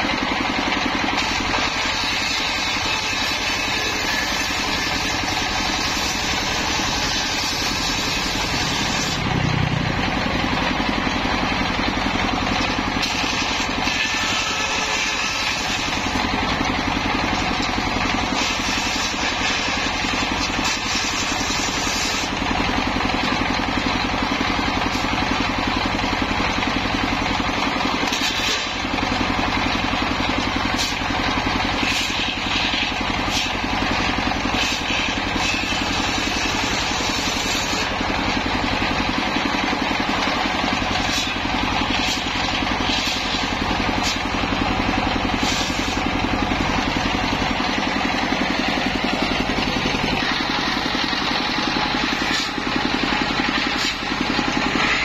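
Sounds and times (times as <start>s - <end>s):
circular saw cutting bamboo: 0.0s - 55.0s
diesel engine running: 0.0s - 55.0s.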